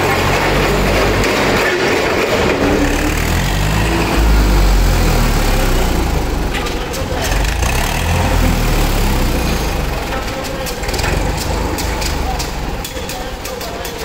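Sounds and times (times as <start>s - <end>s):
forklift engine rumbling: 0.0s - 14.0s.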